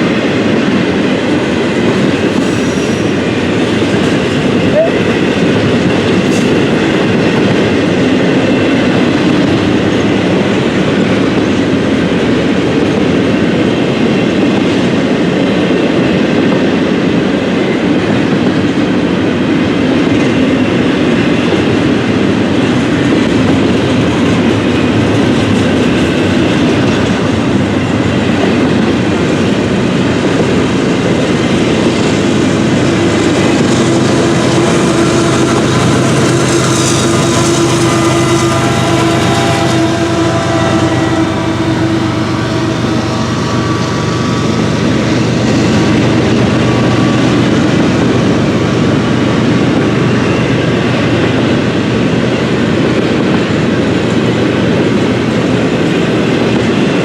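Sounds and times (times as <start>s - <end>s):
clickety-clack over rail joints: 0.0s - 57.0s
train wheels rumbling: 0.0s - 57.0s.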